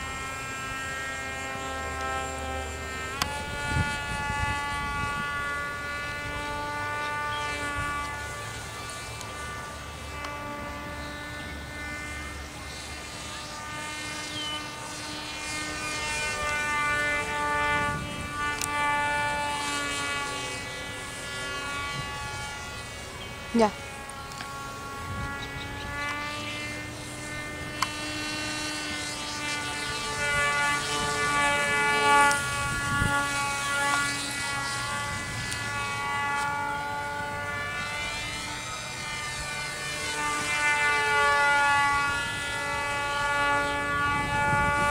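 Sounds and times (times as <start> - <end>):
model plane motor whining: 0.0 - 44.9
wind on microphone: 2.3 - 44.9.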